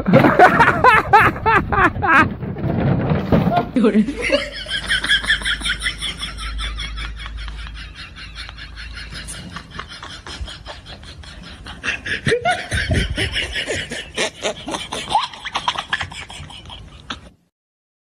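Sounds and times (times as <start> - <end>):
people laughing loudly: 0.0 - 2.3, 4.0 - 17.3.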